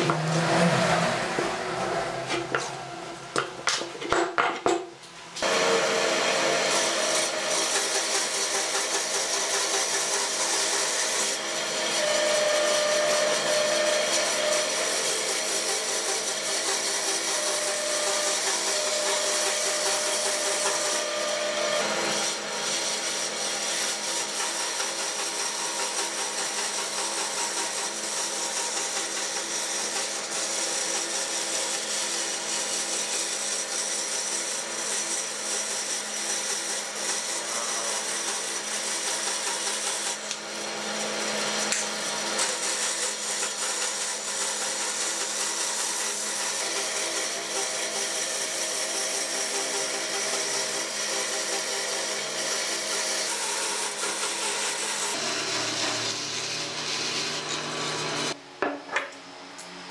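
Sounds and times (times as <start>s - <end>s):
band saw cutting wood: 0.0s - 3.9s, 5.4s - 58.4s.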